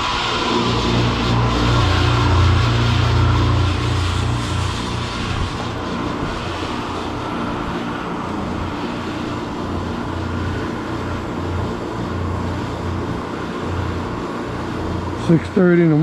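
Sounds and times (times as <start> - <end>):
large engine humming: 0.0 - 15.4
noisy background: 0.0 - 16.0.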